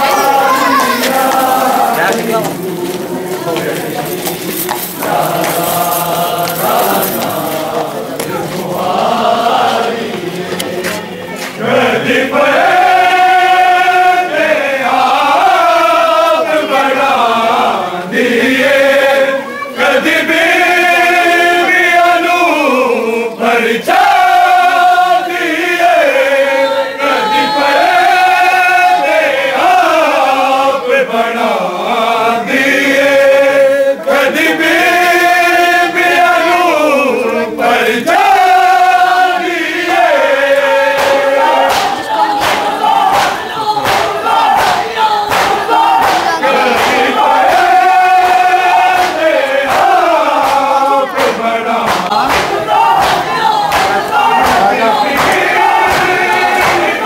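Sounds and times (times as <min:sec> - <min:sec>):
men chanting a lament: 0:00.0 - 0:57.0.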